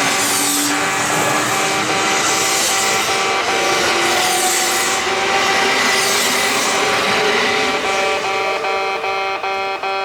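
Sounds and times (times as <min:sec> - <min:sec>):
train rushing past: 0:00.0 - 0:08.6
level-crossing alarm buzzing: 0:00.0 - 0:10.0.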